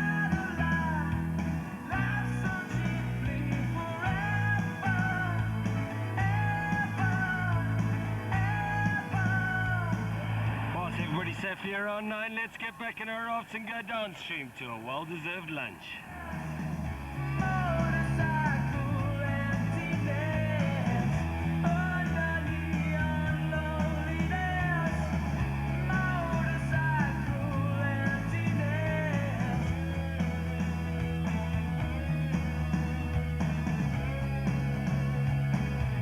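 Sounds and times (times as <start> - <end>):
rock music: 0.0 - 12.8, 15.1 - 36.0.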